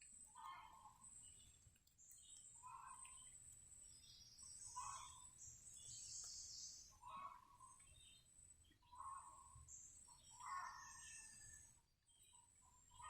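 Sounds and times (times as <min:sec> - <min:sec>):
thin bird chirps and trills: 0:00.0 - 0:13.0.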